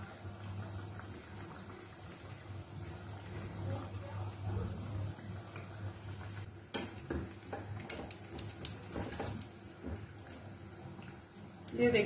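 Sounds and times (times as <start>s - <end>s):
oil bubbling: 0.0s - 12.0s.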